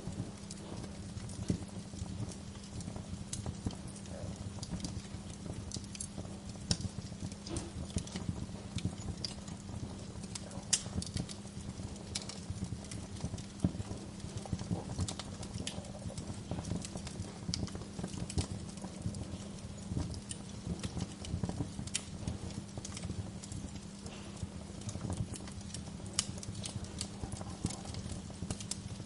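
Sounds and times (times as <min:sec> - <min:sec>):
low rumble of flame: 0:00.0 - 0:29.0
wood fire crackling and popping: 0:00.0 - 0:29.0.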